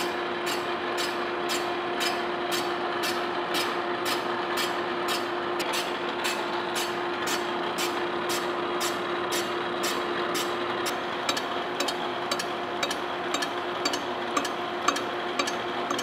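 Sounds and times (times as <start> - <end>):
cutter ticking on iron: 0.0 - 16.0
machine drive humming: 0.0 - 16.0.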